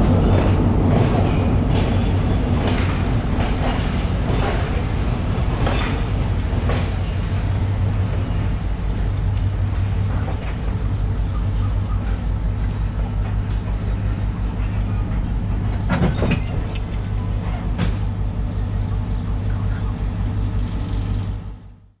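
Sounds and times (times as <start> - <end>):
train clatter: 0.0 - 21.6
diesel train engine drone: 0.0 - 22.0.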